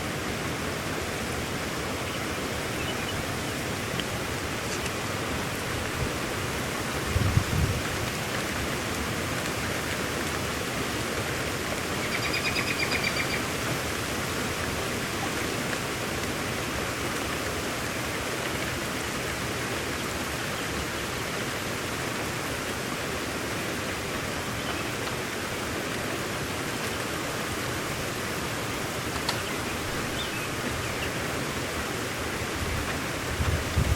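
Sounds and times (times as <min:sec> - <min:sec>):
heavy rain hissing: 0:00.0 - 0:33.9.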